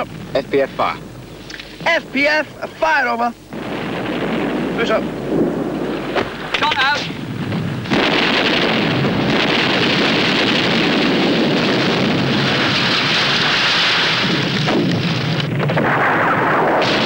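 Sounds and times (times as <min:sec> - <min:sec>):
artillery shells rumbling roar: 0:00.0 - 0:17.0.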